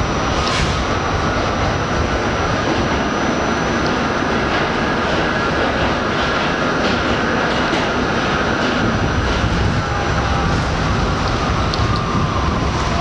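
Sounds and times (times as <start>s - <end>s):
subway wheels on rail: 0.0s - 13.0s.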